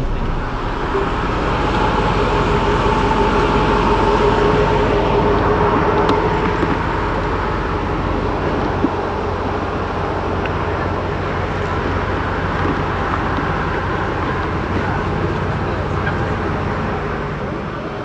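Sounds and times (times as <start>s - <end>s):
engine whine: 0.0s - 18.0s
turboprop engines rumbling: 0.0s - 18.0s.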